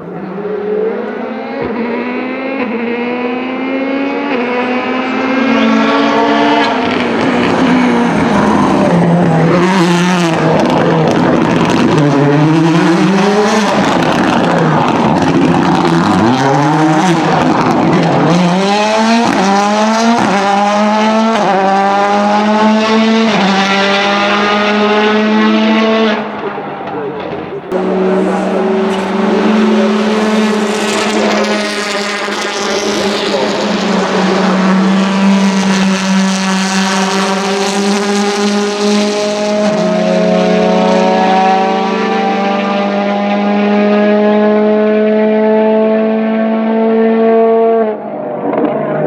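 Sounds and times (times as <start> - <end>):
rally car engine accelerating: 0.0 - 49.0.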